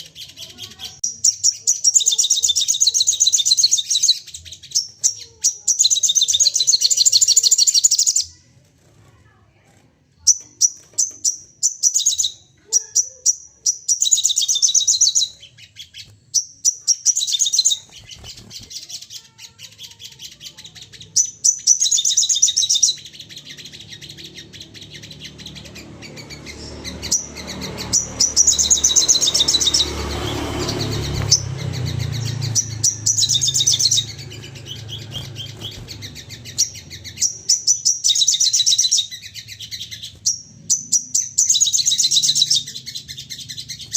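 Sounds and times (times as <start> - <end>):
songbird chirping rapidly: 0.0 - 8.6, 10.1 - 43.9.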